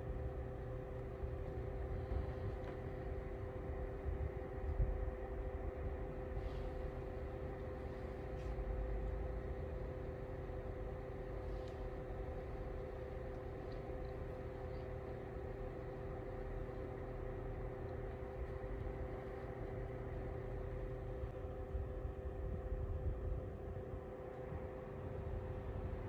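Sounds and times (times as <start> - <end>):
fan air whoosh: 0.0 - 26.0.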